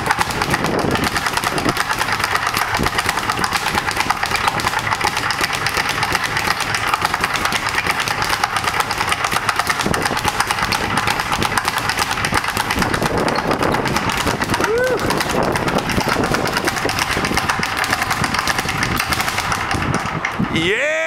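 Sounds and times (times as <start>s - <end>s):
speed bag drumroll thuds: 0.0s - 20.6s.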